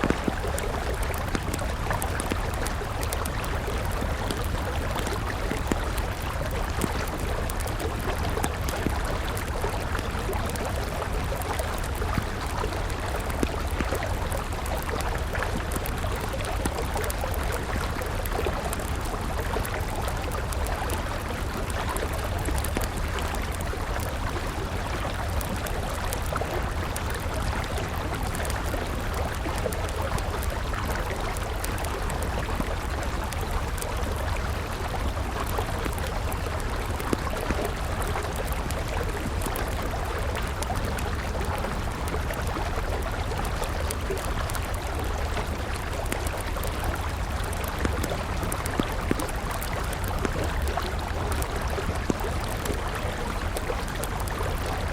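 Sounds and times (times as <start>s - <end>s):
campfire crackling: 0.0s - 54.9s
river flowing: 0.0s - 54.9s.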